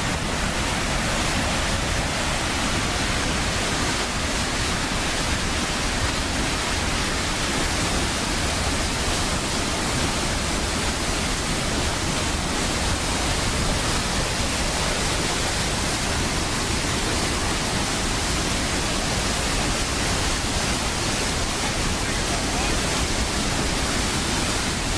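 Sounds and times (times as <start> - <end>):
water rushing from floodgates: 0.0 - 24.9.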